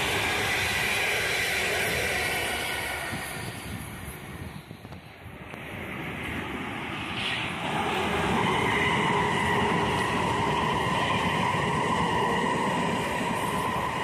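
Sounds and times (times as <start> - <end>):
train wheels rumbling over rails: 0.0 - 14.0.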